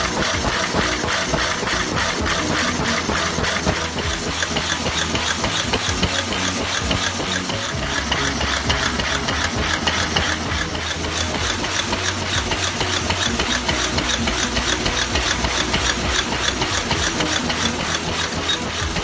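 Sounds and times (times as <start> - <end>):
paper cup machine clattering: 0.0 - 19.0
steady low machine hum: 0.0 - 19.0.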